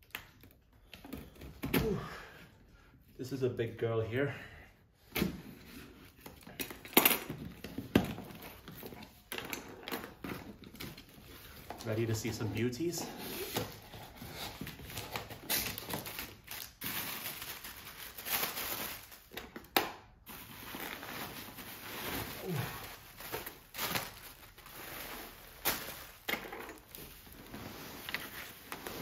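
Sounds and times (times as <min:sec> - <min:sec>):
packaging rustling and crinkling: 0:05.6 - 0:29.0.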